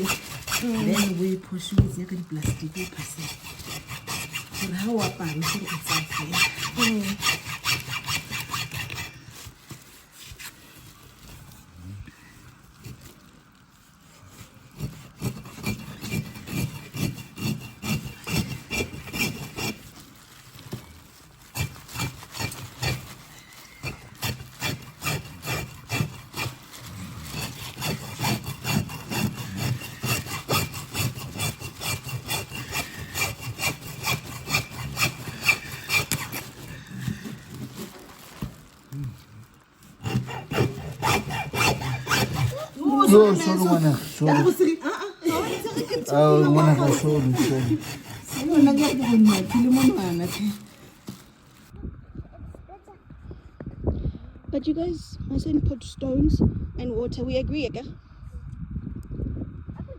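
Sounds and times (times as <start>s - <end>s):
rhythmic rubbing or scraping: 0.0s - 51.8s.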